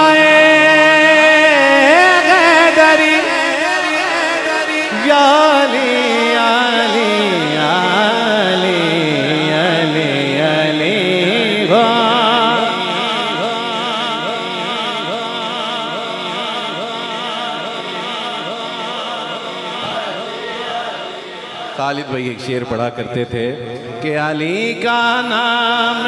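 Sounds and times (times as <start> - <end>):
man singing devotional song: 0.0 - 26.0.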